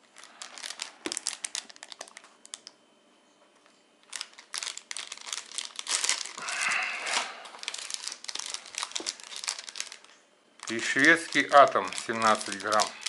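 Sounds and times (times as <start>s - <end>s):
plastic packets crinkling: 0.0s - 2.8s, 4.0s - 13.0s.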